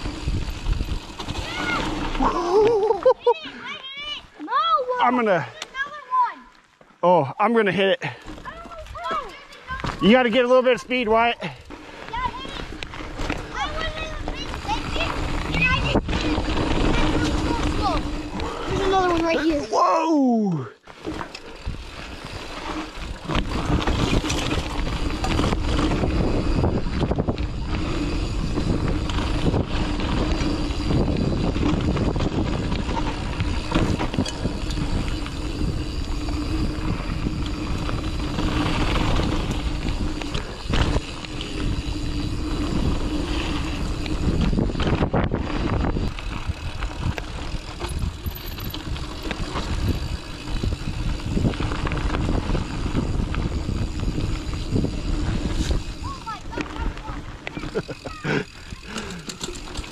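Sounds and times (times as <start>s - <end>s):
bike rattling and knocking: 0.0s - 4.0s, 8.0s - 19.6s, 20.9s - 59.9s
bike tyres rolling on dirt: 0.0s - 59.9s.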